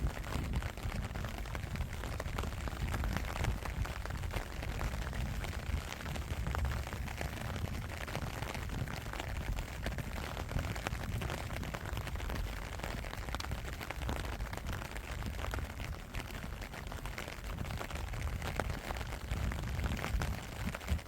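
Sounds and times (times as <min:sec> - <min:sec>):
continuous low rumble: 0:00.0 - 0:21.0
steady rain: 0:00.0 - 0:21.0.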